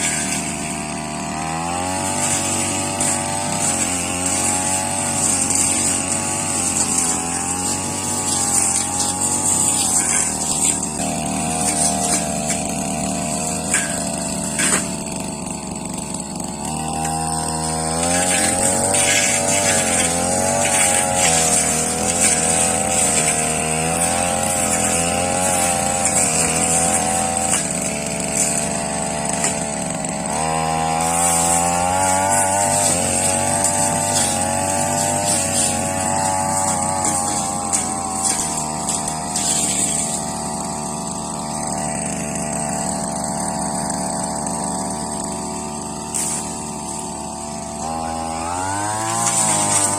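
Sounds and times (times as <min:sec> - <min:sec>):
brush cutter engine revving: 0:00.0 - 0:49.9.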